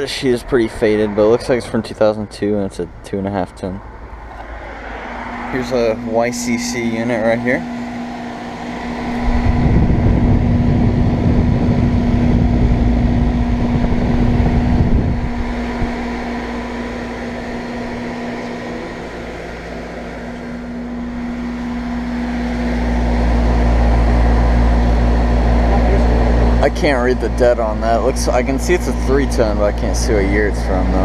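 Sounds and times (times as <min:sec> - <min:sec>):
air conditioner unit running: 0:00.0 - 0:31.0
electrical hum: 0:00.0 - 0:31.0
low rumble: 0:00.0 - 0:31.0.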